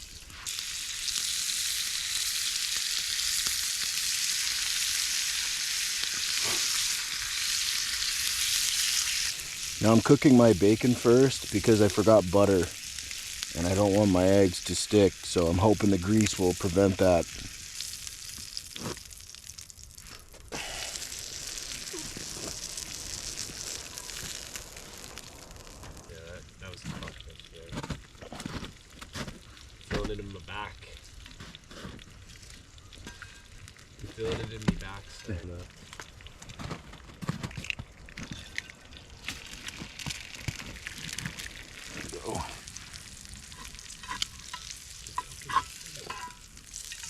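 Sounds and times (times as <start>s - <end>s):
bacon sizzling in a pan: 0.0s - 47.0s.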